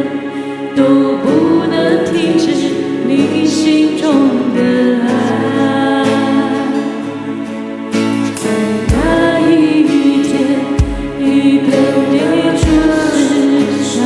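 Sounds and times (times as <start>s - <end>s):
instrumental accompaniment: 0.0s - 13.8s
worship song with sung vocals: 0.0s - 14.0s.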